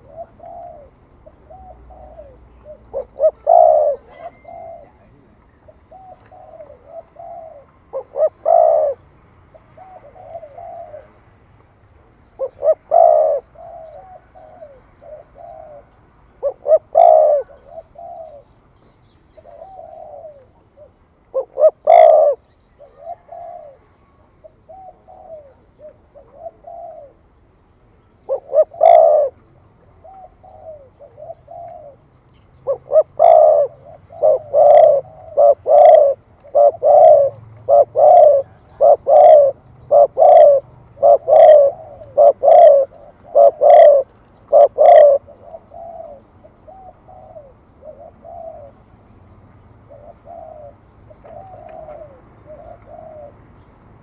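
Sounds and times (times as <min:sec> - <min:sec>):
dove cooing: 0:00.0 - 0:11.2, 0:12.4 - 0:18.6, 0:19.3 - 0:27.4, 0:28.2 - 0:53.7.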